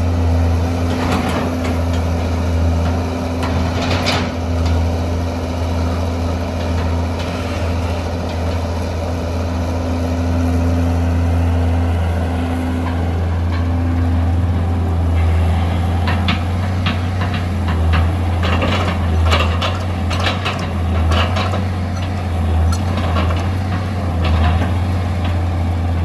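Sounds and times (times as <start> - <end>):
excavator diesel engine droning: 0.0 - 26.0.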